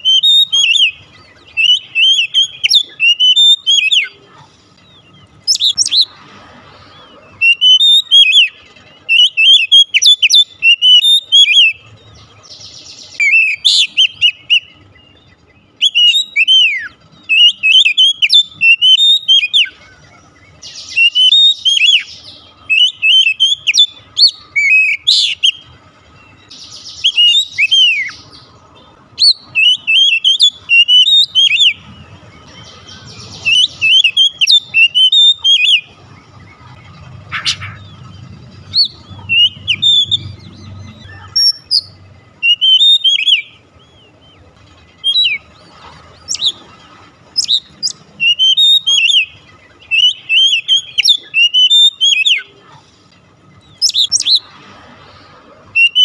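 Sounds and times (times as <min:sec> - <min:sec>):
bird singing whistled notes: 0:00.0 - 0:06.2, 0:06.9 - 0:46.7, 0:47.3 - 0:52.5, 0:53.7 - 0:54.5, 0:55.7 - 0:56.0
harsh buzzy bird notes: 0:00.0 - 0:52.8.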